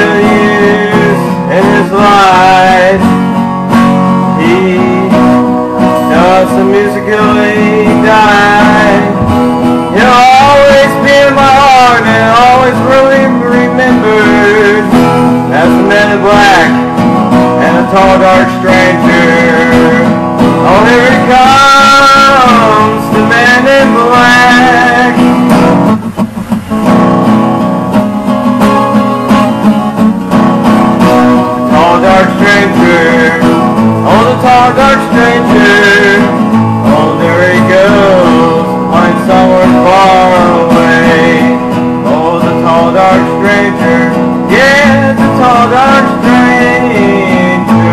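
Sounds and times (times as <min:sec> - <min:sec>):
man singing country song: 0:00.0 - 0:26.0, 0:28.6 - 0:47.9
guitar strumming: 0:00.0 - 0:47.9.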